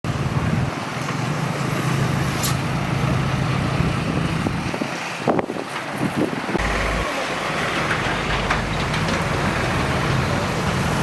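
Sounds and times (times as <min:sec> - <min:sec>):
truck engine running: 0:00.1 - 0:11.0.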